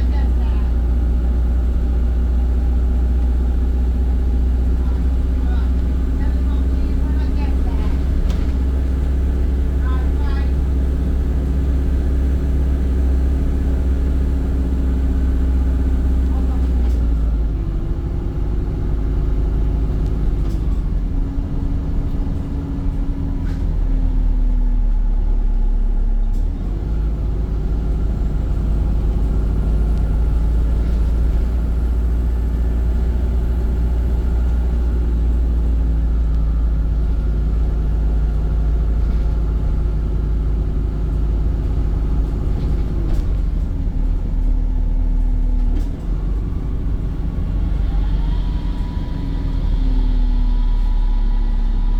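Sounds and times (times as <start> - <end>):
bus drivetrain rumbling and whining: 0.0 - 51.9.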